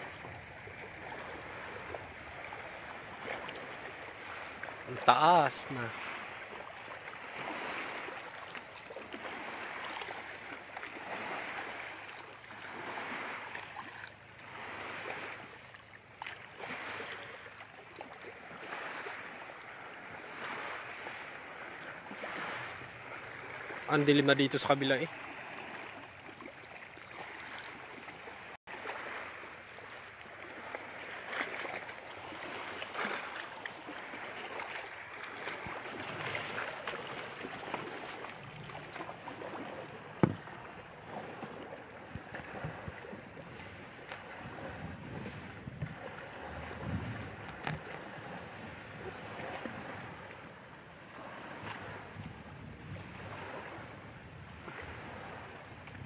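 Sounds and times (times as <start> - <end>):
waves: 0.0 - 56.0
wind: 0.0 - 56.0.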